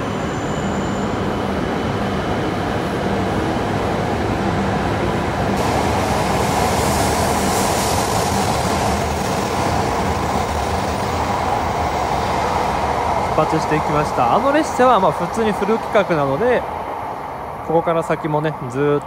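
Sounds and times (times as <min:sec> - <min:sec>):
high-speed train pulling out: 0:00.0 - 0:19.0.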